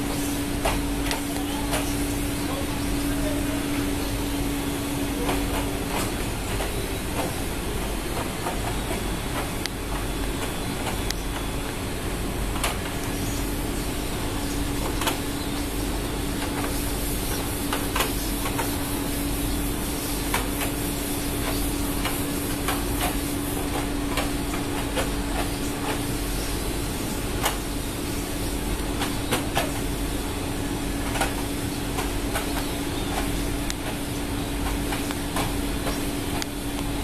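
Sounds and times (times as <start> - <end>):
ship machinery humming: 0.0 - 37.0.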